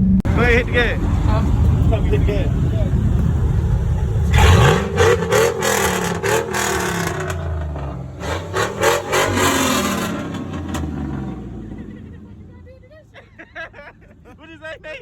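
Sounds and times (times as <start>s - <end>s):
car engine revving with crackles: 0.0s - 12.8s.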